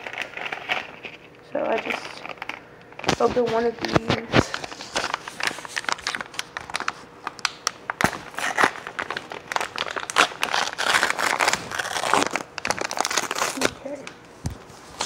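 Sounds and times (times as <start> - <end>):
wrapper crinkling: 0.0 - 14.2.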